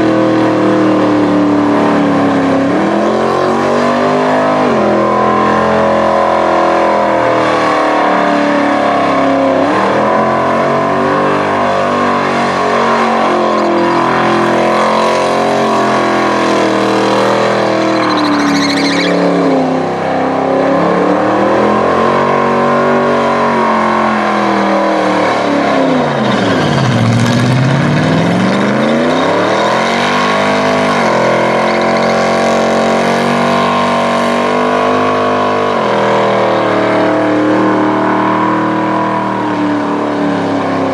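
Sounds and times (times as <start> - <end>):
engine revving during burnout: 0.0 - 40.9.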